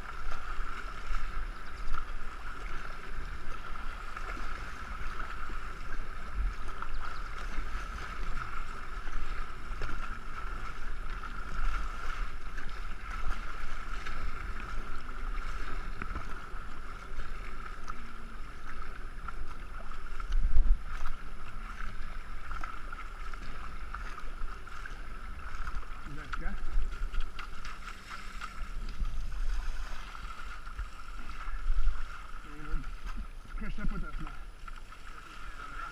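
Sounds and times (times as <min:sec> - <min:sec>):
paddle splashes: 0:00.0 - 0:35.9
water rushing along hull: 0:00.0 - 0:35.9.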